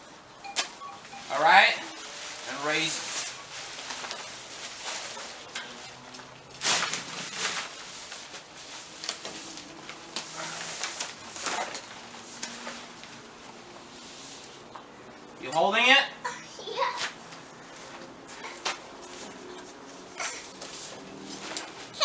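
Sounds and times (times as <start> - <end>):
tent fabric rustling: 1.2 - 14.6, 16.8 - 22.0.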